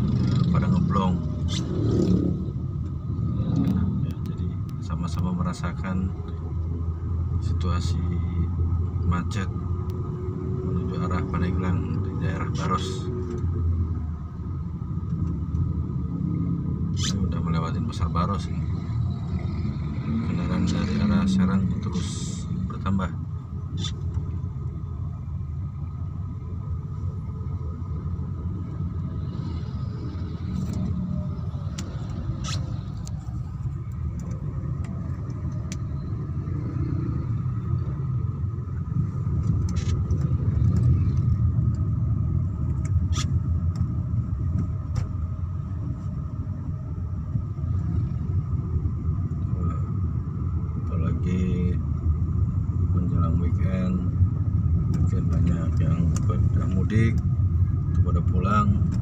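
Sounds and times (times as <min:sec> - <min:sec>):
car engine rumble and road noise: 0:00.0 - 0:59.0.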